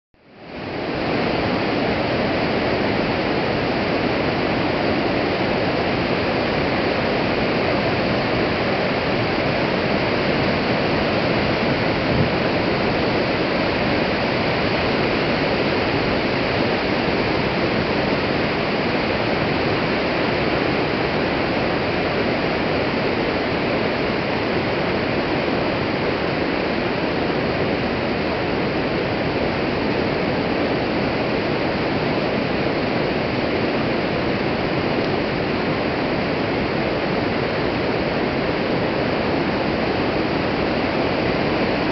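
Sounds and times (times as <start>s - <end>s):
river rushing over falls: 0.2s - 41.9s.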